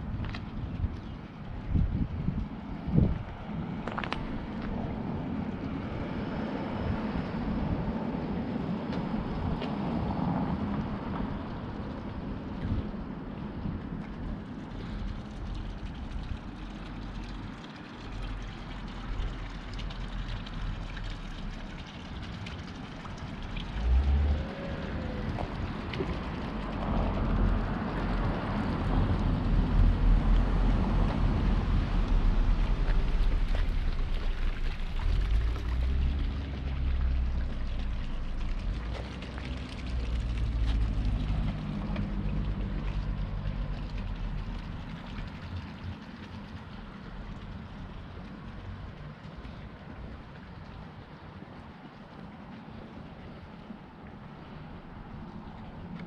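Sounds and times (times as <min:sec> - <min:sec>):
low rumble: 0:00.0 - 0:51.7
vehicle engine hum: 0:00.0 - 0:56.0.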